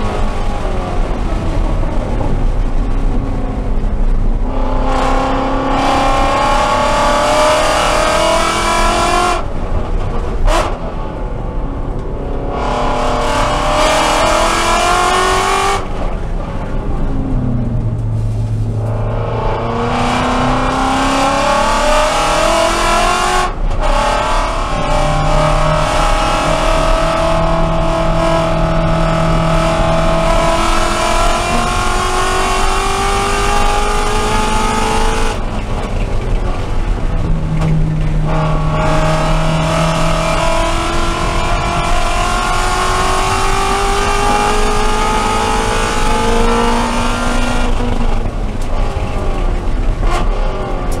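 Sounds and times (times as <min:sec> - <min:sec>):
car engine at full throttle: 0:00.0 - 0:51.0.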